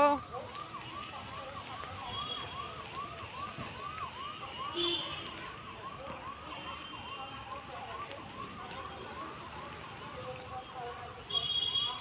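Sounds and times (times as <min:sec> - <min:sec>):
siren yelping: 0:00.0 - 0:10.2.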